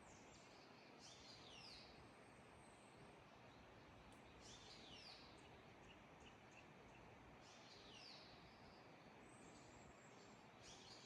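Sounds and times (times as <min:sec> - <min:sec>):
faint steady hiss: 0:00.0 - 0:11.0
songbird singing: 0:00.0 - 0:11.0.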